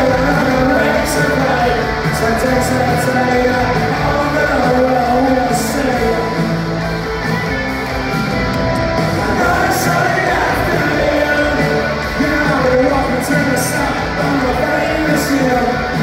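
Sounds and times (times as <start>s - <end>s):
person singing: 0.0s - 6.6s, 9.0s - 16.0s
live rock band playing: 0.0s - 16.0s.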